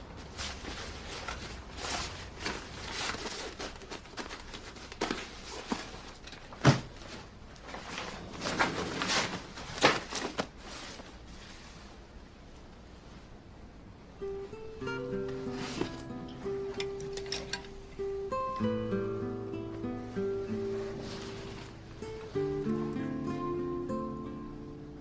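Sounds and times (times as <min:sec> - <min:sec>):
rustling handling noises: 0:00.0 - 0:24.6.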